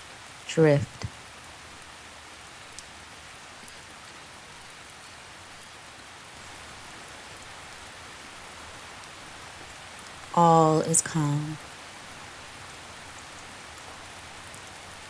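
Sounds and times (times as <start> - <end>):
rain falling on leaves: 0.0 - 10.4, 11.5 - 15.0.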